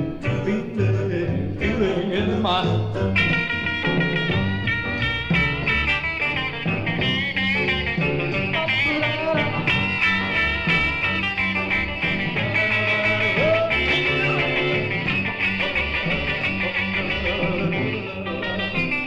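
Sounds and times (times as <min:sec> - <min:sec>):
rhythm and blues band instrumental: 0:00.0 - 0:19.0.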